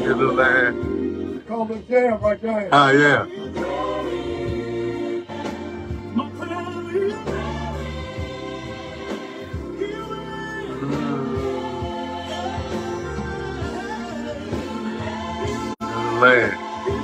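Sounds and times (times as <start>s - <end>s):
choir singing gospel: 0.0s - 1.9s, 2.7s - 17.0s
steady bass line: 2.9s - 17.0s.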